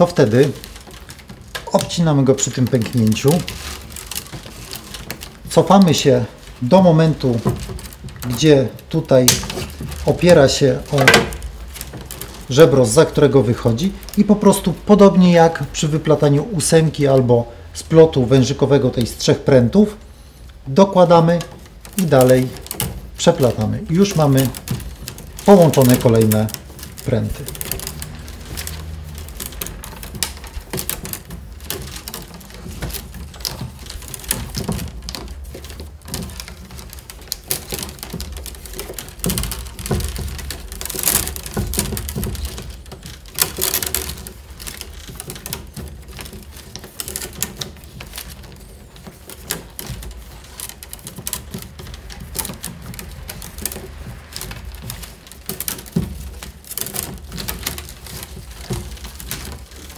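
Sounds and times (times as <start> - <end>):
wicker rods clicking and creaking: 0.0 - 59.9.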